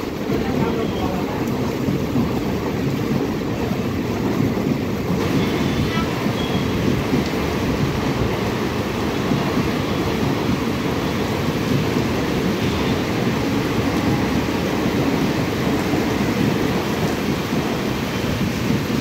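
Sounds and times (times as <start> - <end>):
heavy rain: 0.0 - 19.0
train wheels rumbling on track: 0.0 - 19.0.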